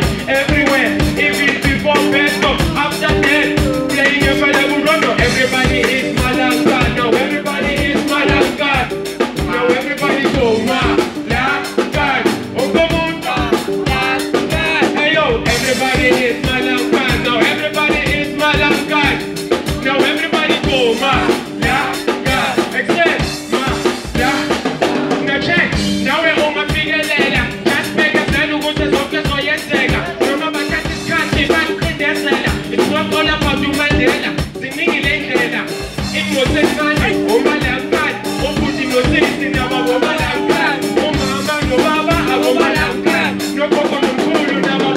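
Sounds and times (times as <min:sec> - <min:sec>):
drum kit beat: 0:00.0 - 0:44.9
electric guitar: 0:00.0 - 0:44.9
lead vocalist singing: 0:00.0 - 0:44.9.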